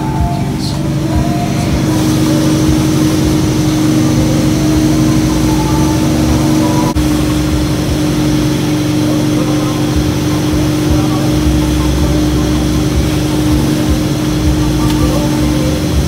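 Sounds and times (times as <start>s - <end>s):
engine running steadily: 0.0s - 16.0s
rushing noise: 0.0s - 16.0s.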